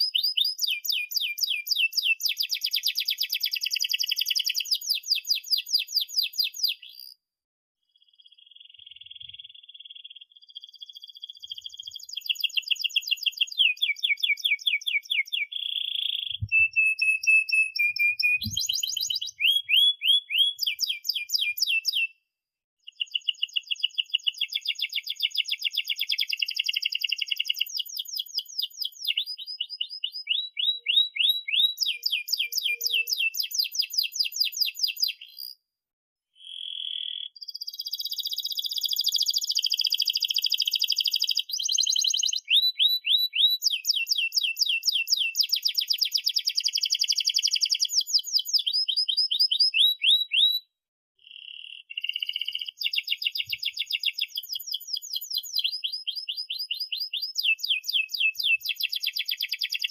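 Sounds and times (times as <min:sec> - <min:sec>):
canary singing trills: 0:00.0 - 0:07.2, 0:08.0 - 0:22.2, 0:22.8 - 0:35.6, 0:36.4 - 0:59.9.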